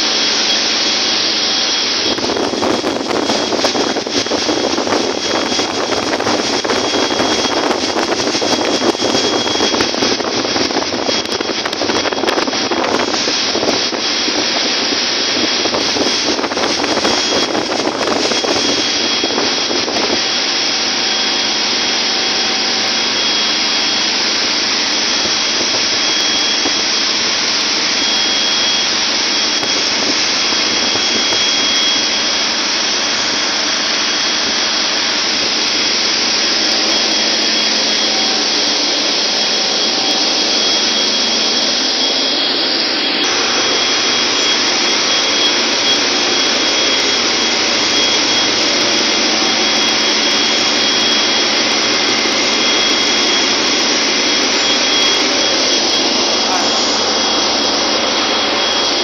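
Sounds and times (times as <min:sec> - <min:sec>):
engine room machinery din: 0:00.0 - 0:59.0
high-pitched whine: 0:00.0 - 0:59.0.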